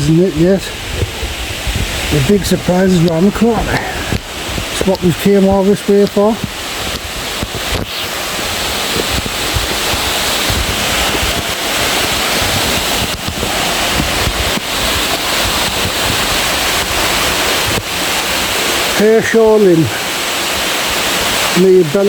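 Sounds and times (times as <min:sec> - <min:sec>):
wind rumbling on microphone: 0:00.0 - 0:21.6
waterfall rushing: 0:00.0 - 0:22.0.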